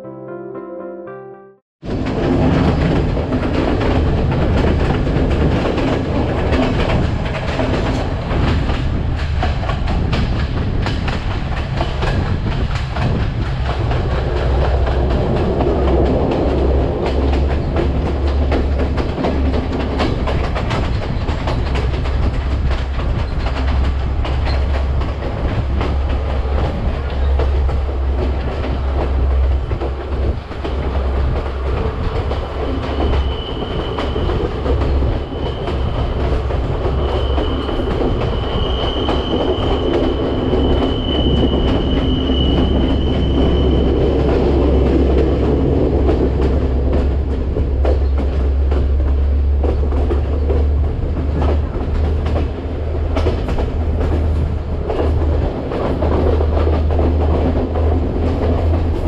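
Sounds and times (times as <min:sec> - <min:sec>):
train rumbling: 0:01.8 - 0:59.0
wheels clicking on rails: 0:01.9 - 0:59.0.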